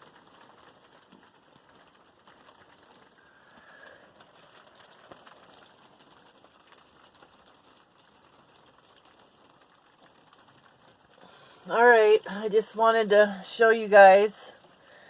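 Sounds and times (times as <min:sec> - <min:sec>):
snow and hail pellets ticking: 0:00.0 - 0:15.0.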